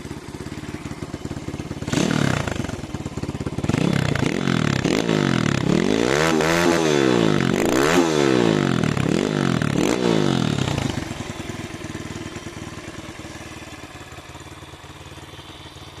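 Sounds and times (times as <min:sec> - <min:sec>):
motorbike engine revving and idling: 0:00.0 - 0:16.0.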